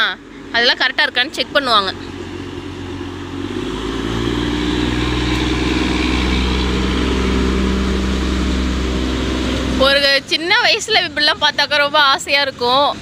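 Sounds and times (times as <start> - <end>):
rail vehicle engine droning: 0.0 - 13.0.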